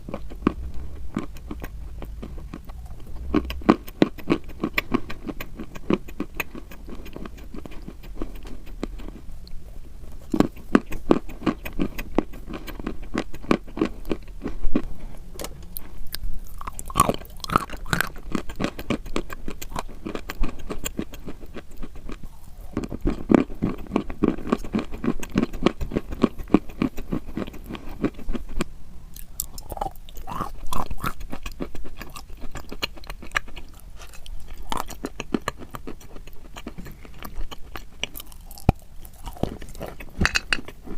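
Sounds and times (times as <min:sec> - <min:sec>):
person chewing crunchy chalk: 0:00.0 - 0:40.9.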